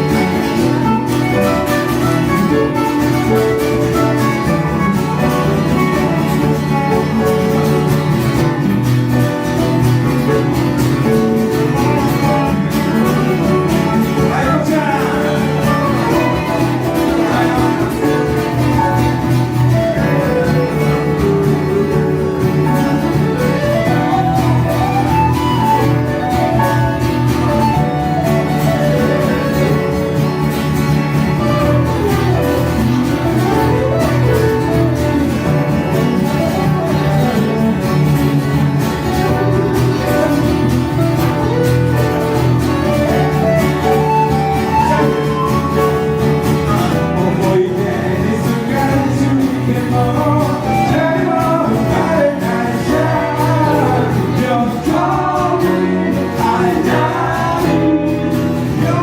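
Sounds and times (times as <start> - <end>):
acoustic country band with guitar: 0.0 - 59.0.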